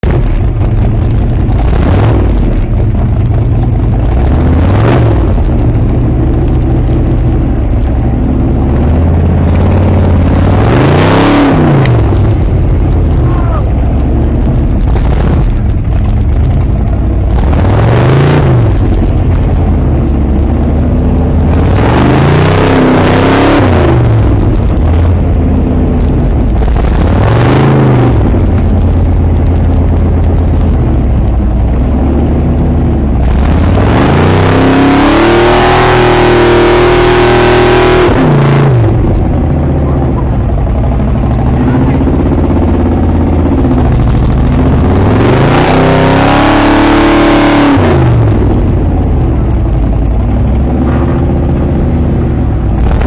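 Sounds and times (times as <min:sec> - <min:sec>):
truck engines revving hard: 0:00.0 - 0:53.0.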